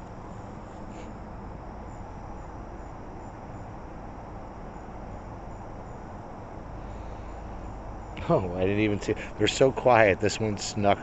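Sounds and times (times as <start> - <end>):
insects chirping: 0.0 - 11.0
low outdoor hum: 0.0 - 11.0.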